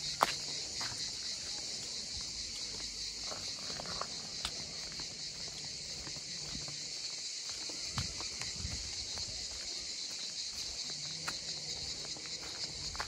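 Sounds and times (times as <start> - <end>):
cicadas chorus: 0.0 - 13.0
footsteps on concrete: 0.0 - 13.0.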